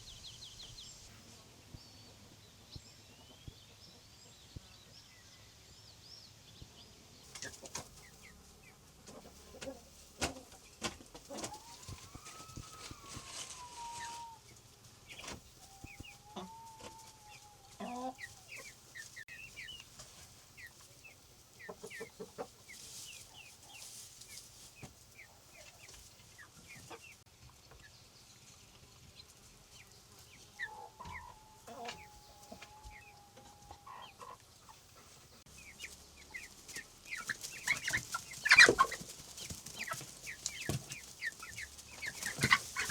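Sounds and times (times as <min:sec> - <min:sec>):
chickens clucking: 0:07.2 - 0:42.9.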